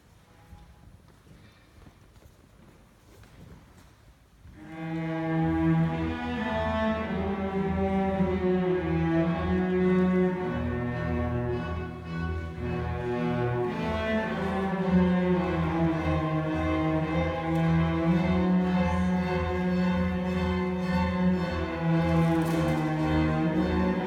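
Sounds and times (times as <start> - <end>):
low cello notes: 4.6 - 24.0
string ensemble playing bowed notes: 4.6 - 24.0.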